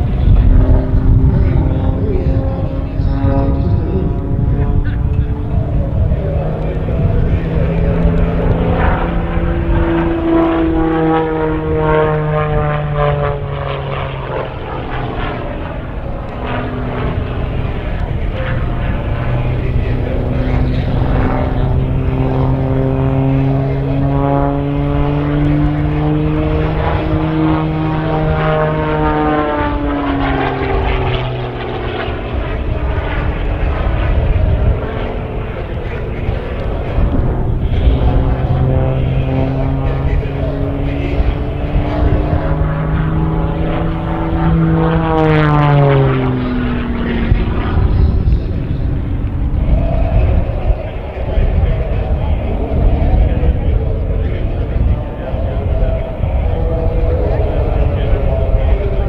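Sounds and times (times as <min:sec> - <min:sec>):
propeller plane engine overhead: 0:00.0 - 0:59.0.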